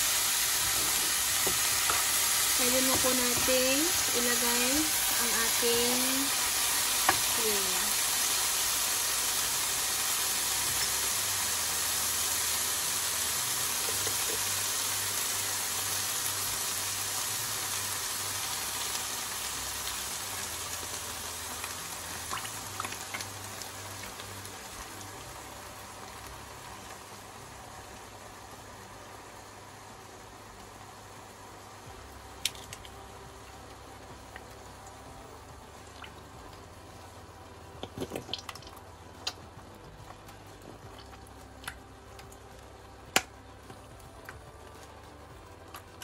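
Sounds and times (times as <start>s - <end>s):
vegetables sizzling in a frying pan: 0.0s - 37.9s.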